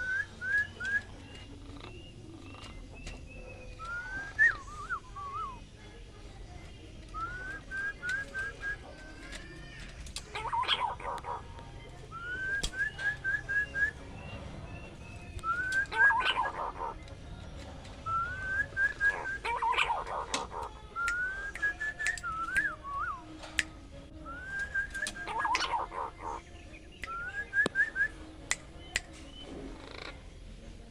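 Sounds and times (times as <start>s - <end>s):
green pigeon whistling calls: 0.0s - 5.6s, 7.1s - 9.4s, 10.3s - 23.2s, 24.2s - 30.2s.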